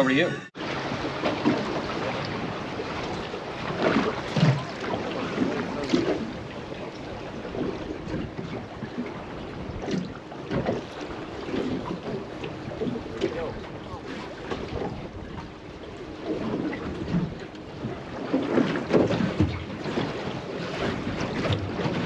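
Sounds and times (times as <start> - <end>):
water sloshing against boat: 0.0 - 22.0
splashes: 0.6 - 22.0
wind buffeting microphone: 0.6 - 22.0.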